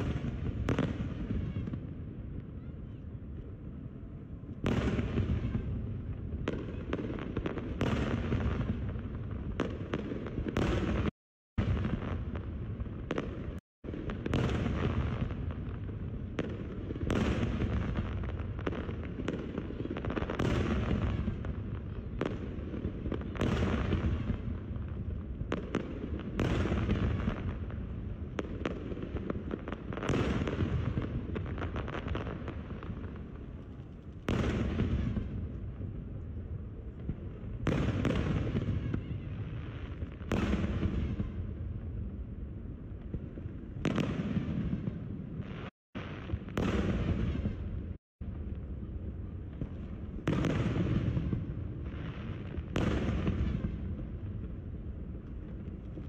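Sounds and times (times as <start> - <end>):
crackling firework pops: 0.0 - 2.6, 4.6 - 5.7, 6.4 - 35.7, 36.9 - 41.5, 43.0 - 48.0, 49.5 - 56.0.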